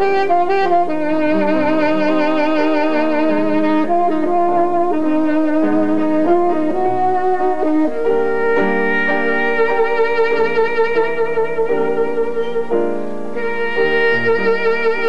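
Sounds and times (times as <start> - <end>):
piano chords: 0.0 - 15.0
saxophone playing slow melody: 0.0 - 15.0.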